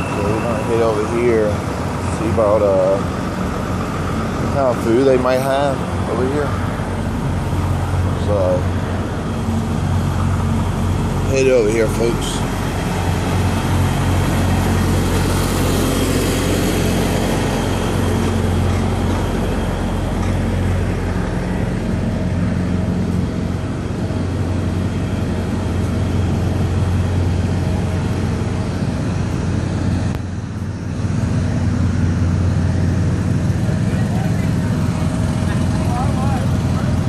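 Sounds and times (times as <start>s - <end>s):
diesel truck engines idling: 0.0s - 37.0s.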